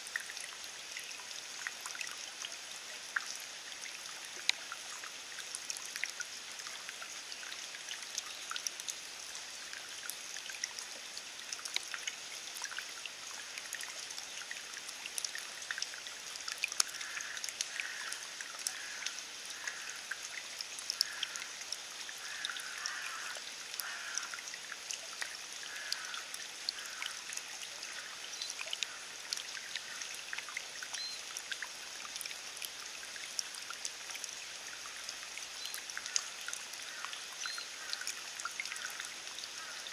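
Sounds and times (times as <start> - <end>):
rain on wet grass: 0.0 - 39.9
water drip ticks: 0.0 - 39.9.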